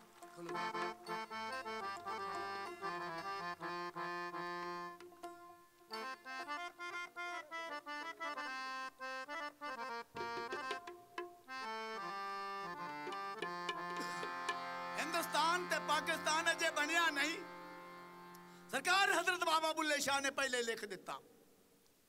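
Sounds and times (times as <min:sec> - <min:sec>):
harmonium melody: 0:00.0 - 0:19.2.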